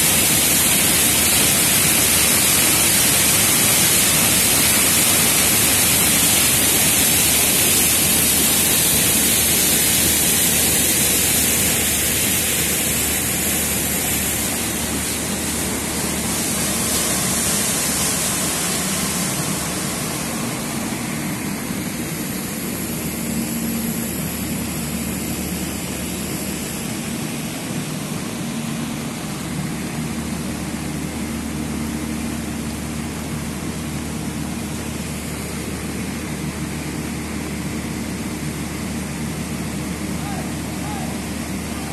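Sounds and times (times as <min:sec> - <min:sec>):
pump humming: 0:00.0 - 0:41.9
water gushing from pipe: 0:00.0 - 0:41.9.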